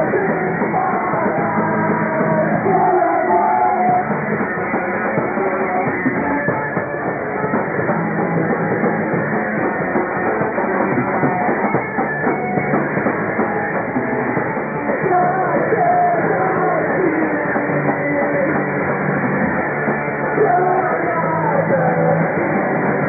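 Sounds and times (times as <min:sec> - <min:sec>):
punk rock band playing: 0:00.0 - 0:23.0.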